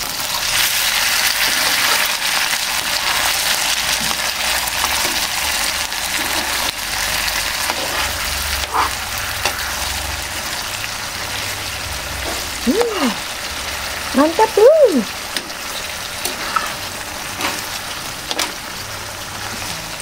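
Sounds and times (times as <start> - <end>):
sauce sizzling in a frying pan: 0.0 - 20.0.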